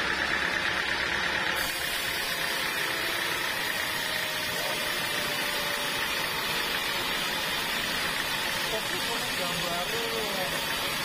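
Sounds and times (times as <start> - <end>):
sawmill machine drive noise: 0.0 - 11.0
saw blade rasping through wood: 1.5 - 11.0.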